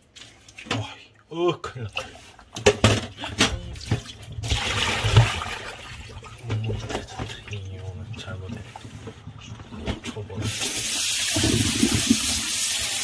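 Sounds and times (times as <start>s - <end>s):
water sloshing in a sink: 0.0s - 13.0s.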